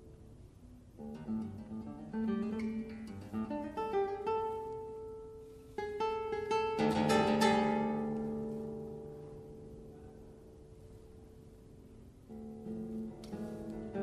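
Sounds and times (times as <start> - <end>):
classical guitar plucked runs: 0.0 - 14.0.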